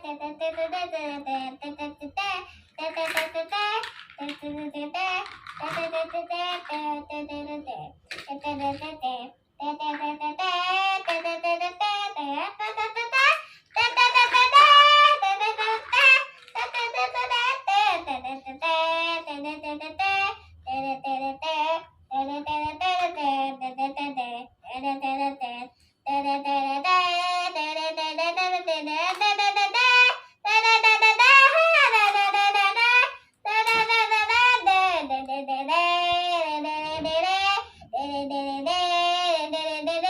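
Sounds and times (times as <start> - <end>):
child singing: 0.0 - 40.0.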